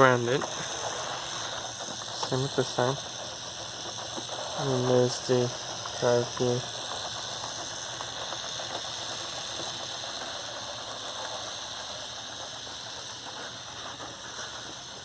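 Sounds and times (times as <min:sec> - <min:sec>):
plastic gears clicking: 0:00.0 - 0:15.0
small electric motor whine: 0:00.0 - 0:15.0.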